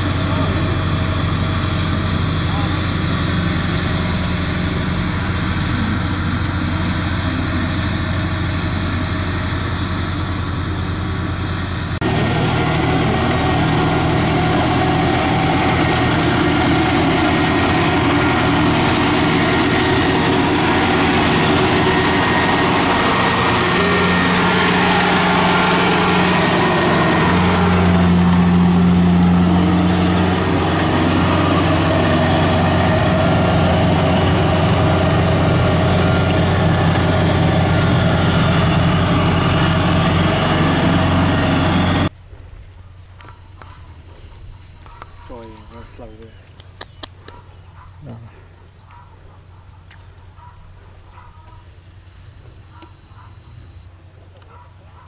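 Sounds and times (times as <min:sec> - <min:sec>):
diesel engine running: 0:00.0 - 0:42.2, 0:43.0 - 0:55.0.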